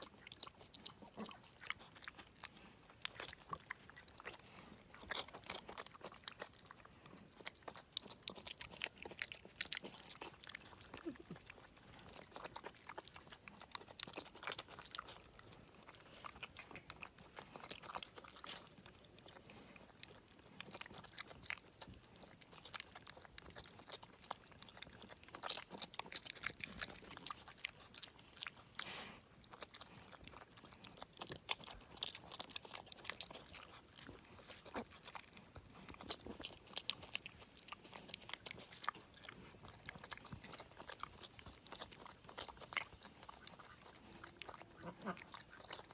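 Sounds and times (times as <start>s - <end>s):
pig chewing noisily: 0.0s - 45.9s.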